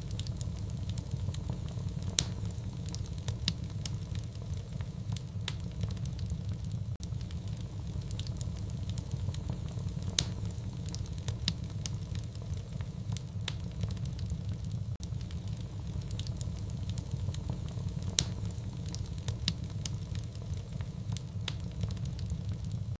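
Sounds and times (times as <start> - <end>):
fire crackling and popping: 0.0 - 23.0
wood fire rumbling: 0.0 - 23.0.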